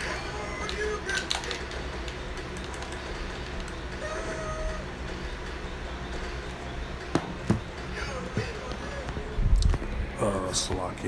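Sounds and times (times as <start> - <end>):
low background rumble and hum: 0.0 - 11.0.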